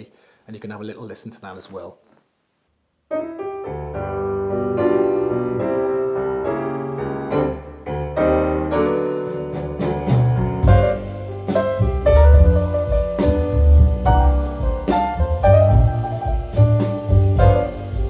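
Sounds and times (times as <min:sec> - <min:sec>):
piano music: 0:03.1 - 0:18.0.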